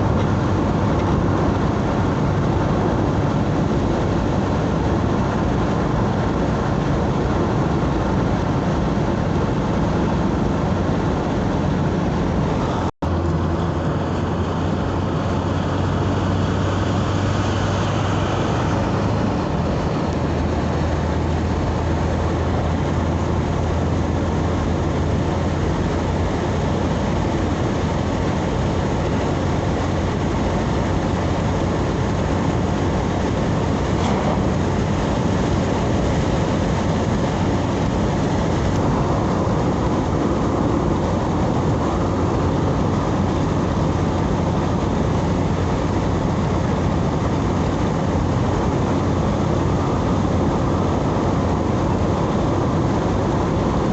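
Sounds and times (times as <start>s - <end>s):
vehicle driving on road: 0.0s - 53.9s.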